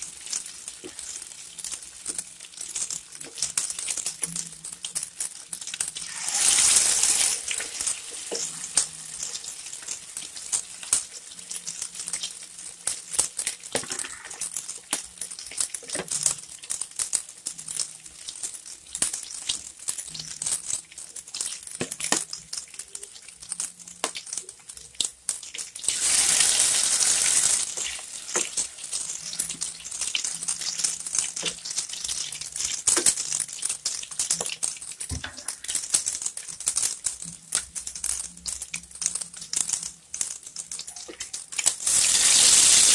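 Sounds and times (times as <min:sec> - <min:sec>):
frying oil hiss: 0:00.0 - 0:42.9
oil crackling and popping: 0:00.0 - 0:42.9.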